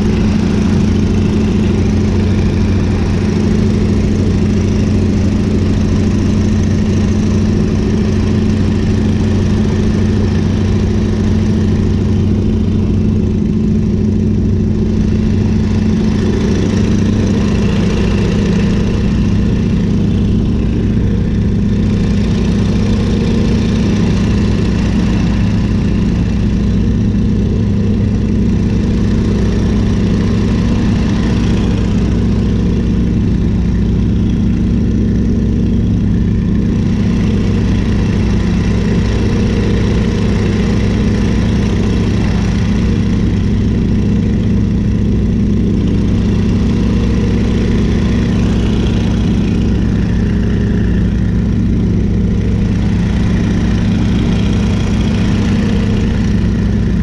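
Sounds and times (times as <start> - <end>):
radial aircraft engine droning: 0.0 - 57.0
wind rush in open cockpit: 0.0 - 57.0.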